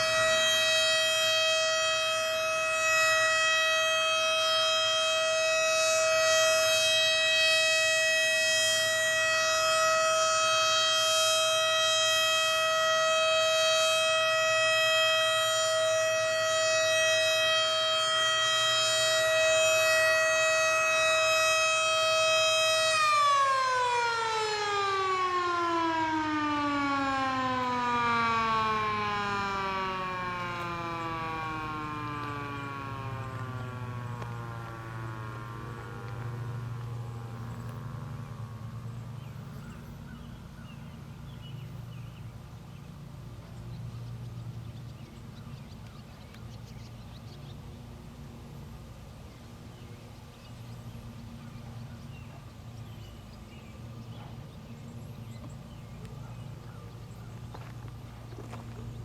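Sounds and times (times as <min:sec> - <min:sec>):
warning siren steady tone: 0:00.0 - 0:50.0, 0:50.6 - 0:59.0.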